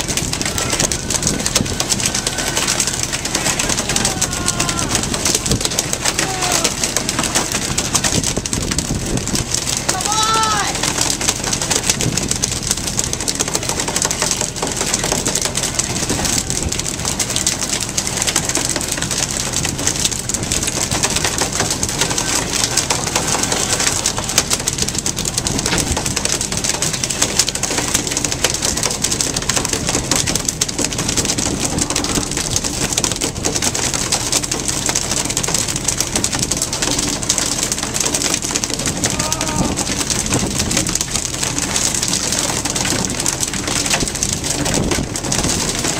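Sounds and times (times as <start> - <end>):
boat engine drone: 0.0 - 45.9
fine clicking and slapping: 0.0 - 45.9
sea wash and spray: 0.0 - 45.9.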